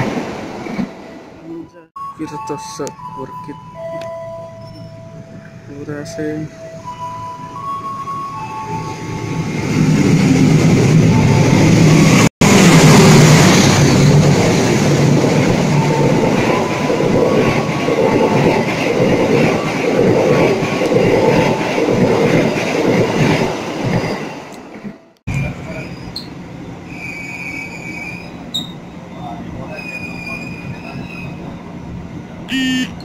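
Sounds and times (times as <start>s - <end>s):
train passing with rumble: 2.5s - 33.0s.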